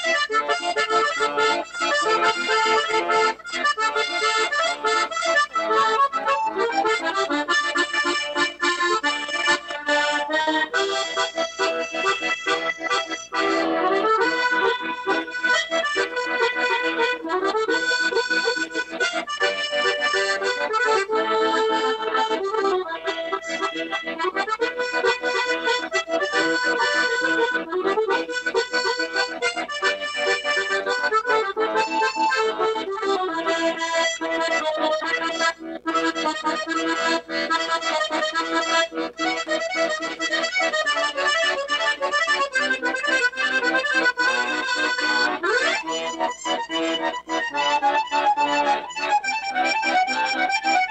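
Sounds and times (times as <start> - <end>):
accordion playing: 0.0 - 50.9.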